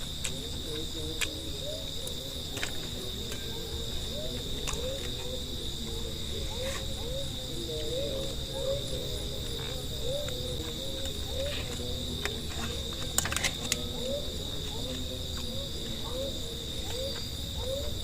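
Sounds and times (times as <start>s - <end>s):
insects high-pitched trill: 0.0s - 18.0s.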